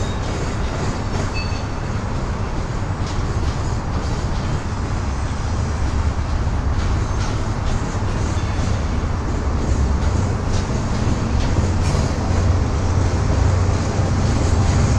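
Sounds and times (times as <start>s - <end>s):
train rumbling and rattling: 0.0s - 14.9s.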